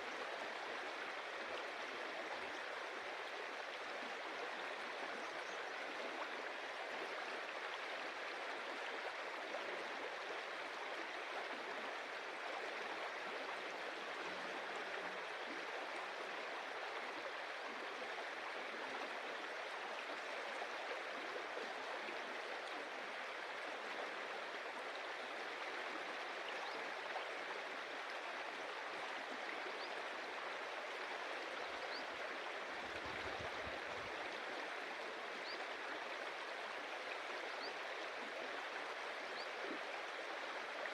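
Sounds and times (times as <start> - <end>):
stream water over stones: 0.0 - 40.9.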